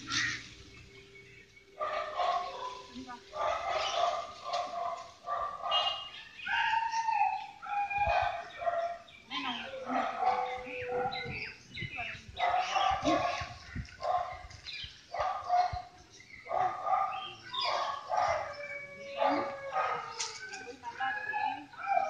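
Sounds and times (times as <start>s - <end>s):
dogs barking and yelping: 1.6s - 11.6s, 12.3s - 22.0s.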